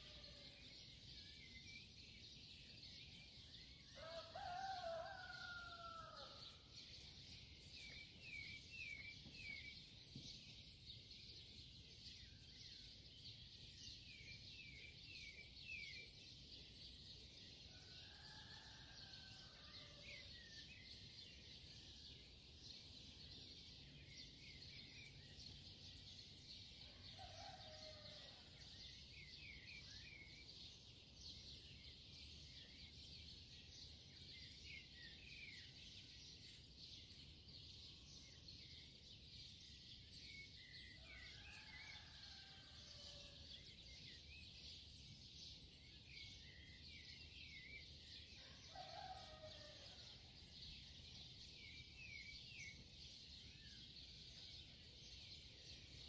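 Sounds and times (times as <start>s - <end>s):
small birds chirping softly: 0.0s - 56.0s.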